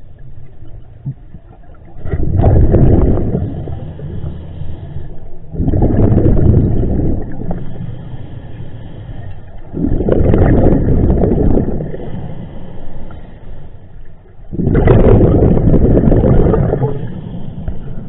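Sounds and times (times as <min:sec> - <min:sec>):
exhaled bubbles underwater: 0:00.0 - 0:04.4, 0:05.0 - 0:13.2, 0:14.1 - 0:18.0.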